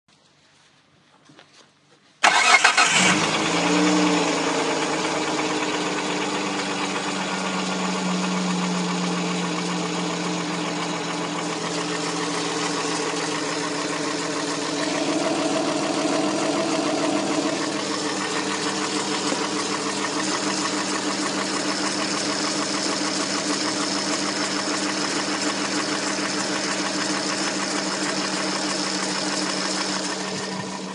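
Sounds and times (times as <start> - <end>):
car engine starting and idling: 2.2 - 30.9
engine knocking: 2.3 - 30.9.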